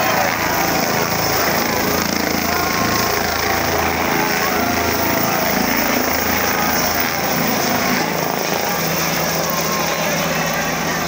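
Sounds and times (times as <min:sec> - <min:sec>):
crowd noise: 0:00.0 - 0:11.0
helicopter rotors and engine: 0:00.0 - 0:11.0.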